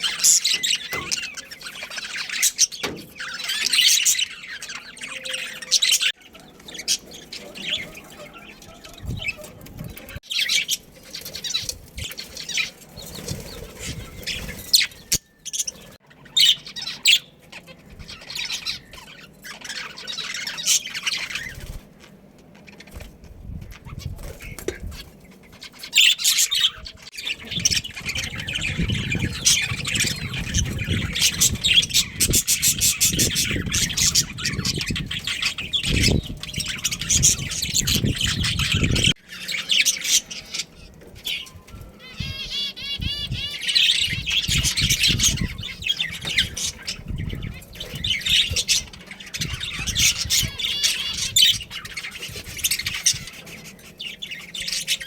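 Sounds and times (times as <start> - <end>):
budgerigars chattering: 0.0 - 23.0, 23.8 - 55.0.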